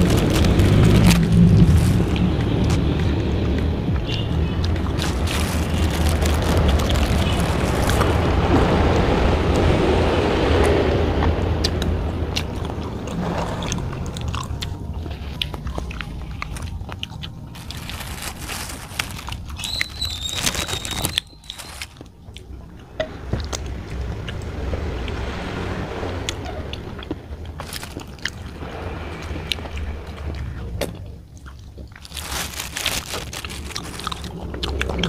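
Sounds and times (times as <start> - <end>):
chewing and crunching chicken bones: 0.0 - 8.5, 11.6 - 24.5, 26.8 - 35.0.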